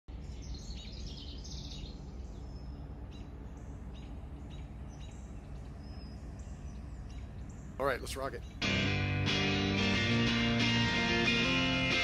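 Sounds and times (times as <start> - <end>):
birds chirping: 0.1 - 12.0
steady low rumble: 0.1 - 12.0.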